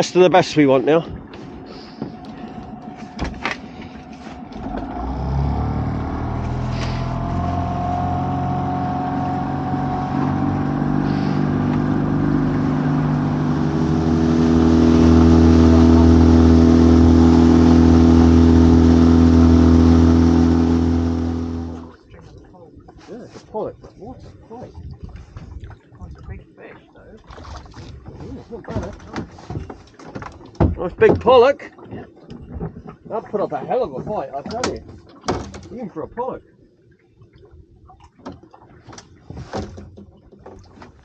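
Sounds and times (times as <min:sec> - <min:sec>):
boat engine running: 0:00.0 - 0:36.7.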